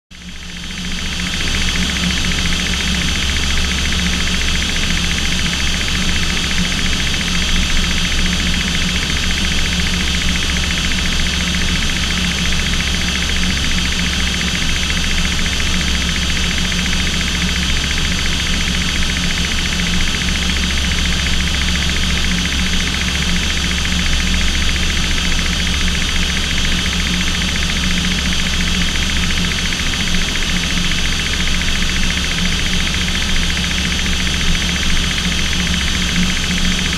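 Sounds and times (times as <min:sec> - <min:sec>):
aircraft engines droning: 0:00.2 - 0:36.9.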